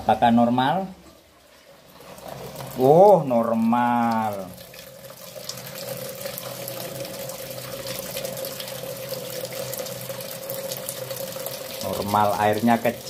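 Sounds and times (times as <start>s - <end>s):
water running into washing machine: 0.0s - 13.0s.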